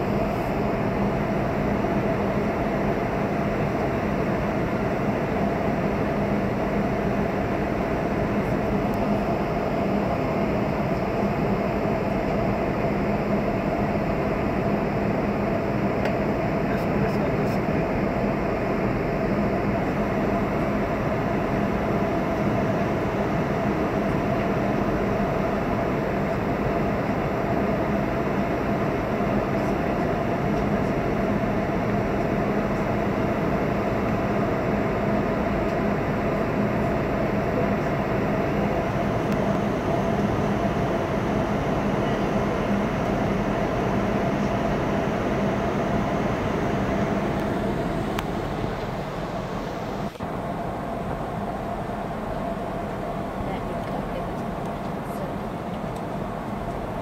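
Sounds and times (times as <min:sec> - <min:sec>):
jet engines and airflow rumble: 0:00.0 - 0:57.0.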